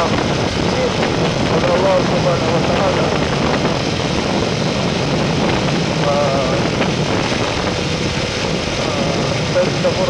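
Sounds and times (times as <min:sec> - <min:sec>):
motorcycle engine at speed: 0:00.0 - 0:10.0
wind rushing: 0:00.0 - 0:10.0.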